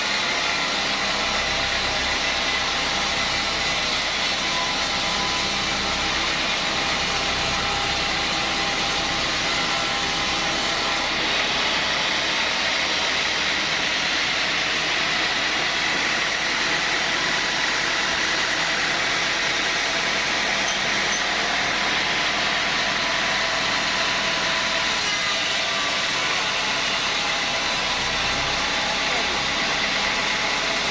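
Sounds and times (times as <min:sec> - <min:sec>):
sawmill machinery running: 0:00.0 - 0:30.9.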